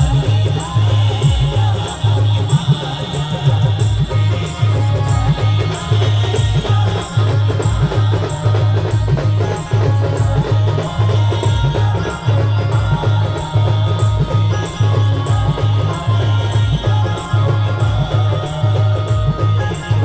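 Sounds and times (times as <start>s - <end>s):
devotional band music: 0.0s - 20.0s
heavy bass drum beat: 0.0s - 20.0s.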